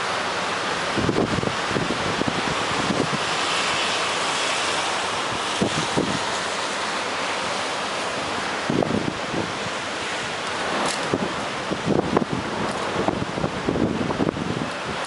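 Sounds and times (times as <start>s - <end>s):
storm wind blowing: 0.0s - 15.0s
wind buffeting microphone: 0.6s - 7.0s, 8.0s - 15.0s.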